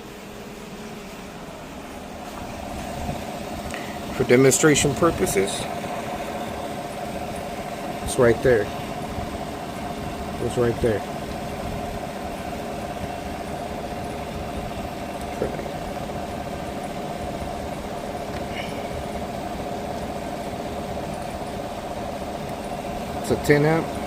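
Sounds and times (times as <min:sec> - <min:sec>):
car engine idling hum: 0:00.0 - 0:24.0
climate fan running: 0:00.0 - 0:24.0.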